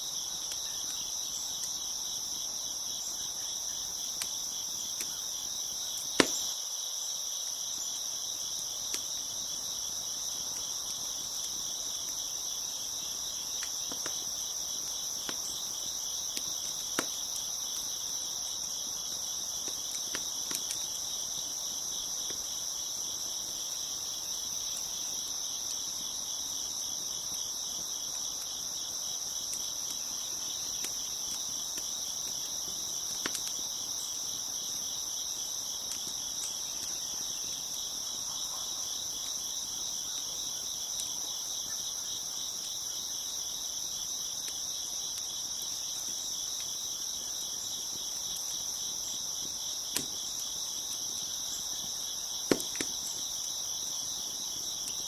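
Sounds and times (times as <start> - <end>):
crickets chirping: 0.0 - 55.0
wood fire crackling: 0.0 - 55.0.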